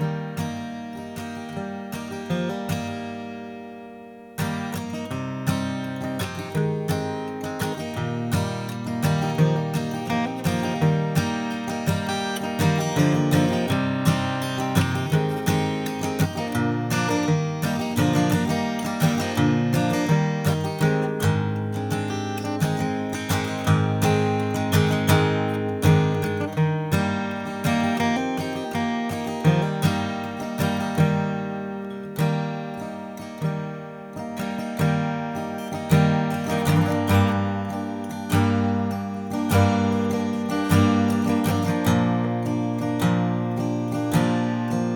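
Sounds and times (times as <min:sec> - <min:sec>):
acoustic guitar strummed and picked: 0:00.0 - 0:44.9.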